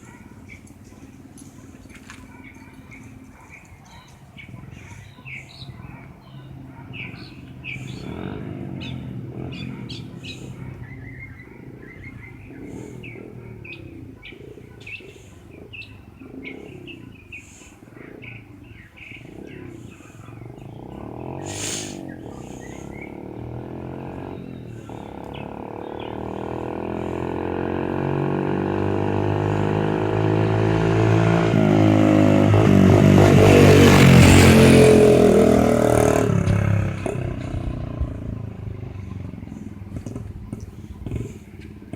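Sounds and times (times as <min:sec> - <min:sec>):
dirt bike engine approaching: 0:00.0 - 0:14.3, 0:15.1 - 0:41.9
birds chirping: 0:00.0 - 0:41.9.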